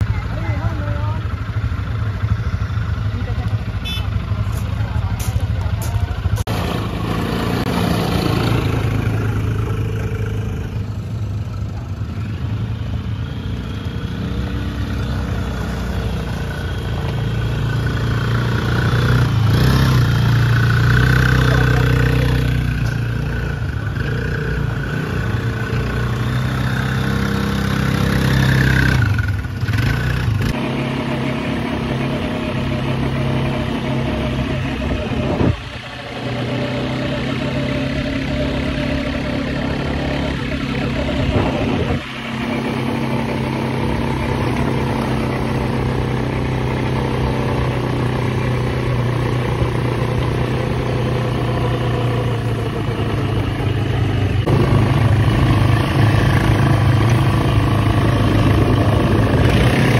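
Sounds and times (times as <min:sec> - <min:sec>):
quad bike engines idling and revving: 0:00.0 - 0:59.9.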